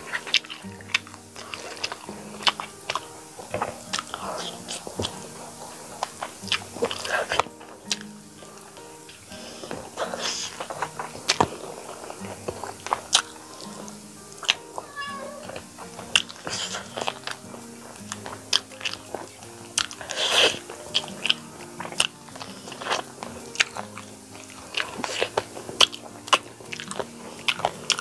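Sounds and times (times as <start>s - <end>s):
lip smacks: 0.0s - 28.0s
slurping: 0.0s - 28.0s
soft background music: 0.0s - 28.0s
wet chewing: 0.0s - 28.0s
sharp clicks while chewing: 0.1s - 28.0s.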